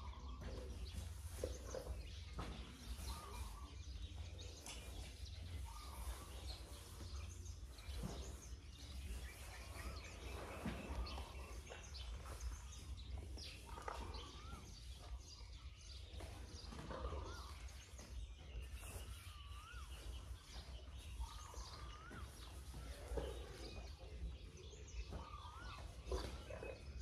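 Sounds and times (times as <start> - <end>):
bird chirps: 0.0 - 27.0.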